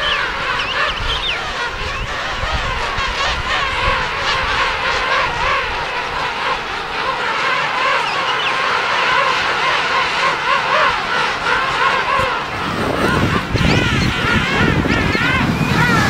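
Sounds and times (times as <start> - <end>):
penguins calling: 0.0 - 16.0.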